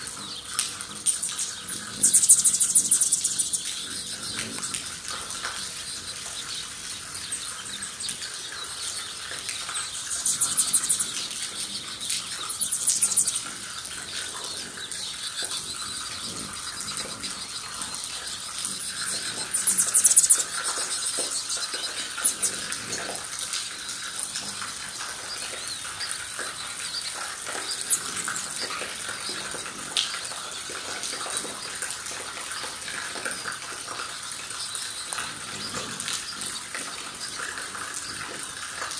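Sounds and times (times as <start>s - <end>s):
hummingbirds buzzing and chittering: 0.0s - 38.9s
light rain hiss: 0.0s - 38.9s.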